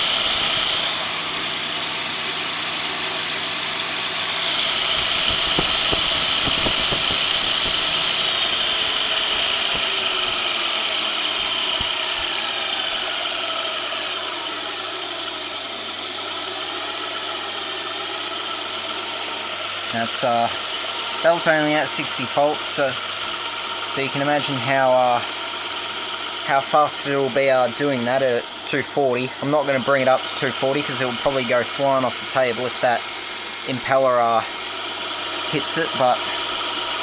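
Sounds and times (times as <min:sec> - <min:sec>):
pressure washer motor whining: 0:00.0 - 0:37.0.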